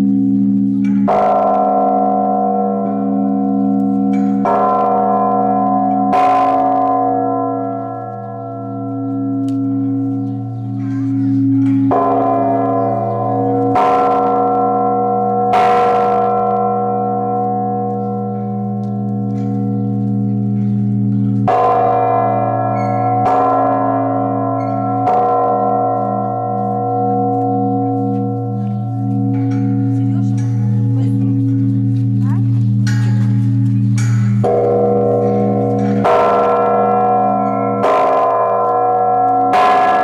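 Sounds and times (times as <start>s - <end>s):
large bell ringing: 0.0s - 40.0s.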